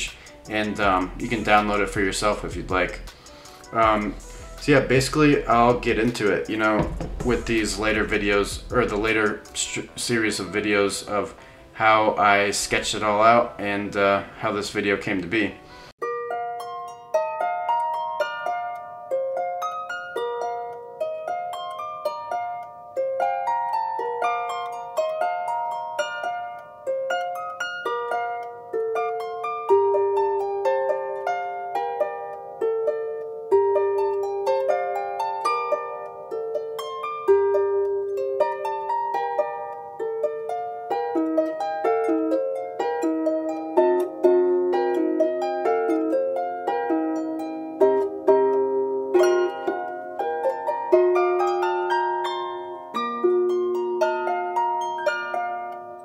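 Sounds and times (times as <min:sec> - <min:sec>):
plucked string tune: 0:00.0 - 0:56.0.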